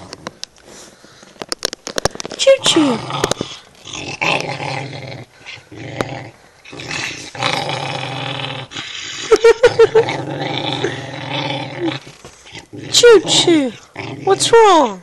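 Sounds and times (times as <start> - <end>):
small dog growling: 2.5 - 14.8
dog snarling: 2.6 - 14.8.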